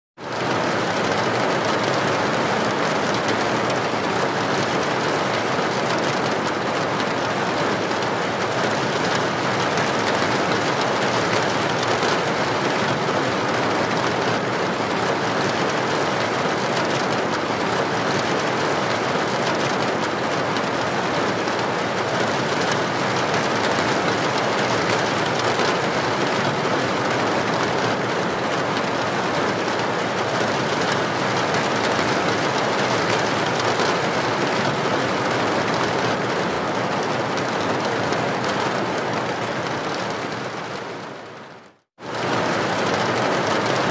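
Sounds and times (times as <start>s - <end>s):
steady rain: 0.2s - 43.9s.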